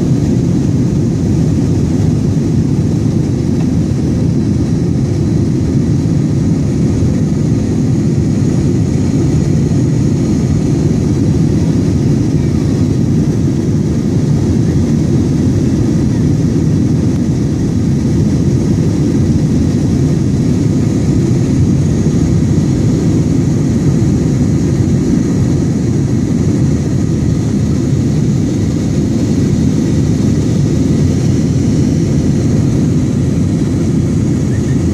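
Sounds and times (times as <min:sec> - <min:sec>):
airliner engines rumbling: 0:00.0 - 0:34.9.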